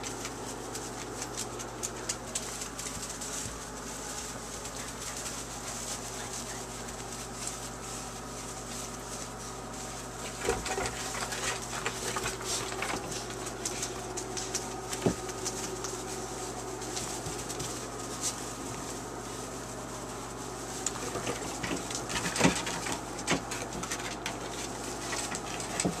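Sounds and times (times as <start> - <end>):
puppies scuffling in wood shavings: 0.0 - 26.0.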